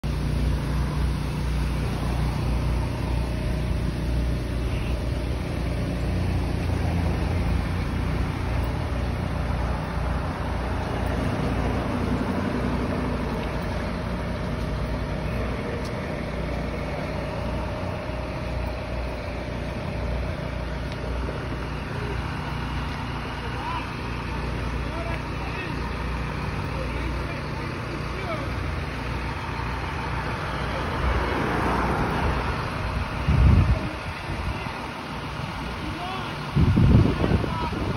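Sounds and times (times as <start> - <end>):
truck engine droning: 0.0 - 37.9.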